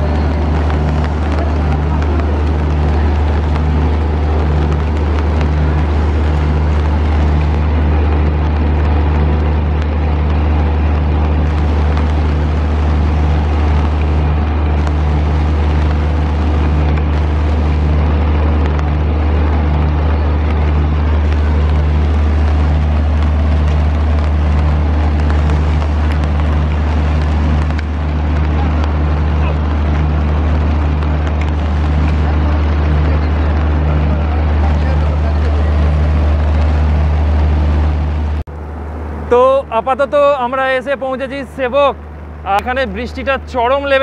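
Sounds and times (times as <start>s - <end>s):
constant low hum: 0.0s - 44.0s
train rumbling on track: 0.0s - 44.0s.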